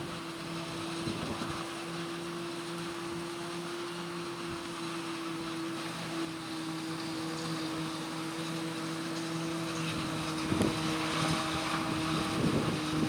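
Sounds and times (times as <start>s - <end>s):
farm machinery engine drone: 0.0s - 13.0s.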